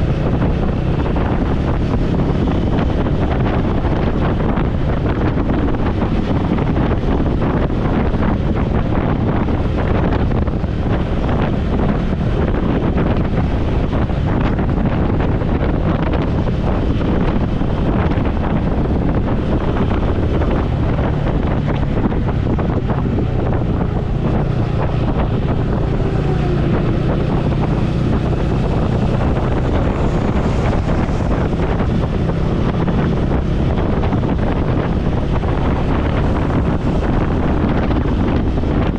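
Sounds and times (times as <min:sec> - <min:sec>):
motorcycle engine hum: 0:00.0 - 0:38.9
wind buffeting microphone: 0:00.0 - 0:38.9.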